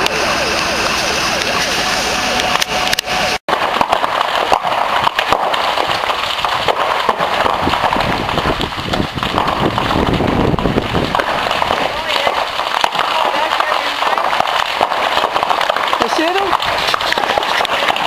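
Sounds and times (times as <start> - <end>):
engine running: 0.0 - 18.0
fire crackling and popping: 0.0 - 18.0.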